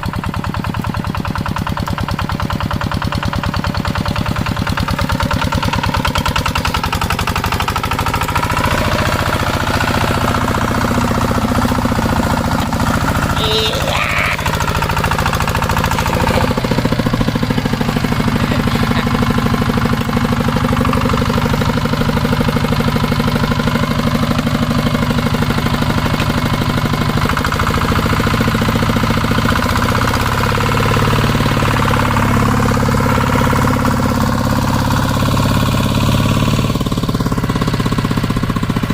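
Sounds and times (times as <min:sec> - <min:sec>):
walking tractor engine knocking: 0:00.0 - 0:38.9.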